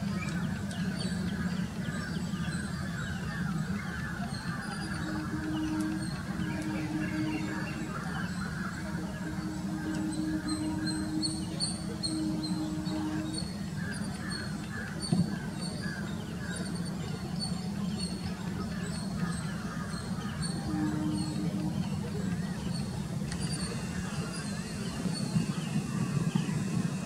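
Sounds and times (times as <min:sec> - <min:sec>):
birds chirping: 0:00.0 - 0:27.0
distant jet engines rumbling: 0:03.5 - 0:27.0.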